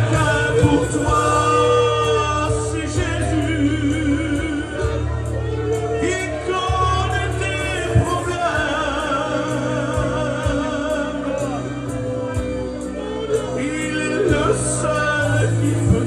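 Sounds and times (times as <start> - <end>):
man singing a hymn: 0.0 - 12.5, 13.1 - 16.0
instrumental accompaniment: 0.0 - 16.0.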